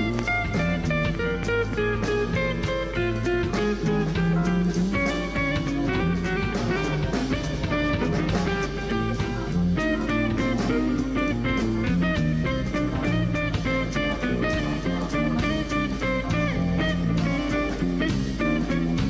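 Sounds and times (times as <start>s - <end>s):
bass guitar line: 0.0s - 19.0s
drum kit with cymbals: 0.0s - 19.0s
electric guitar playing: 0.0s - 19.0s.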